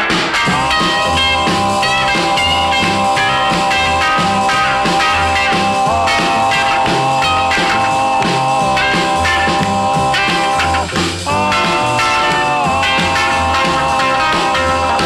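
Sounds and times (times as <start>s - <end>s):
rock and roll band music: 0.0s - 15.0s.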